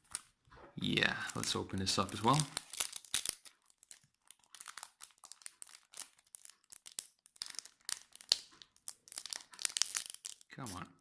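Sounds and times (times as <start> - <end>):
foil wrapper crinkling and tearing: 1.0 - 10.8.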